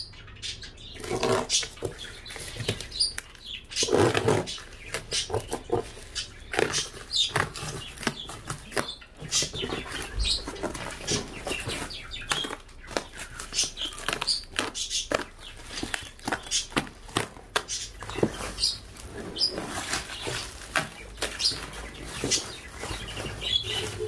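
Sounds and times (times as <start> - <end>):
packaging rustling and clicking: 1.0 - 24.0.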